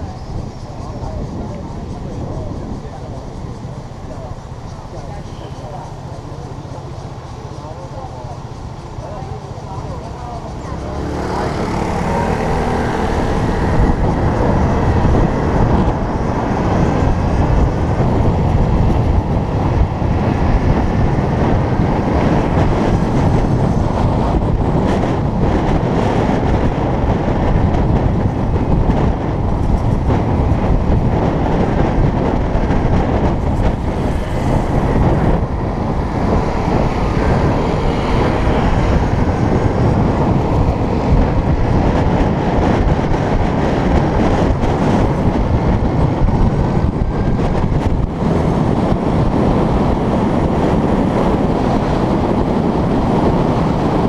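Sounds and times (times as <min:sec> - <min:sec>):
electric motorbike ride noise: 0:00.0 - 0:54.0.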